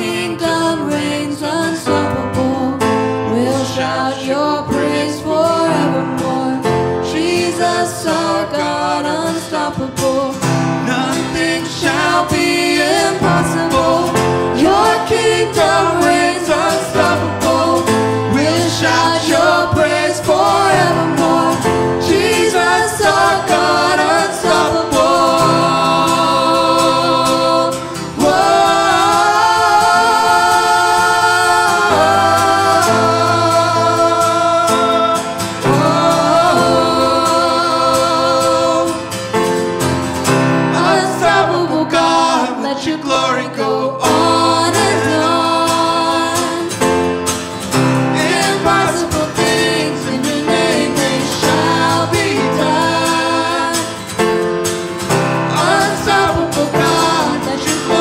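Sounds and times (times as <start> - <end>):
person singing: 0.0 - 39.4, 40.7 - 47.0, 48.2 - 54.2, 55.5 - 58.0
acoustic guitar: 0.0 - 58.0
grand piano: 0.0 - 58.0.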